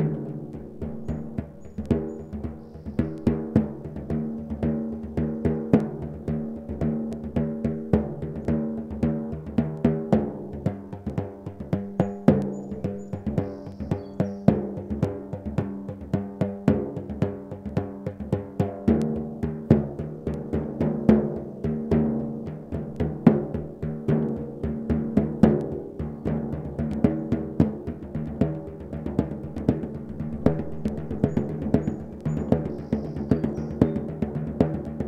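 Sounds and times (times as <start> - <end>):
frame drums struck rapidly: 0.0 - 35.0.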